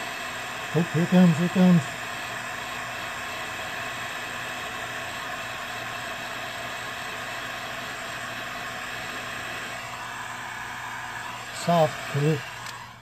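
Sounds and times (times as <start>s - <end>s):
heat gun fan blowing air: 0.0s - 13.0s.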